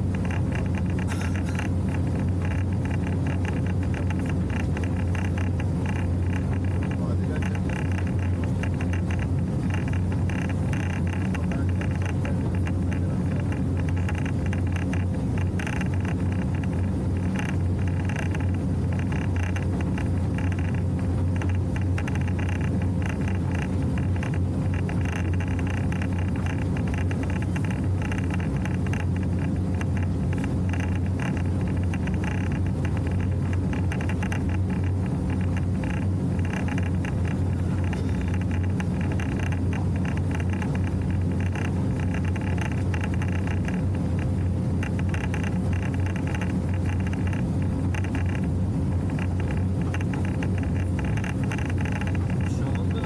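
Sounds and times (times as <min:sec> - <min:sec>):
motorboat engine humming: 0:00.0 - 0:53.0
water rushing along hull: 0:00.0 - 0:53.0.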